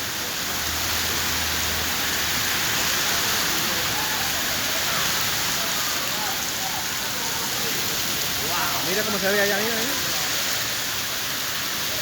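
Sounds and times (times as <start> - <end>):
heavy rain on street: 0.0 - 12.0.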